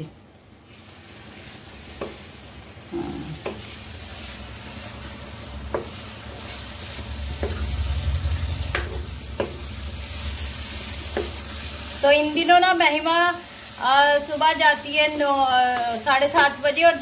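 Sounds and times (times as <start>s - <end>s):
onions and spices sizzling in pan: 0.0s - 17.0s.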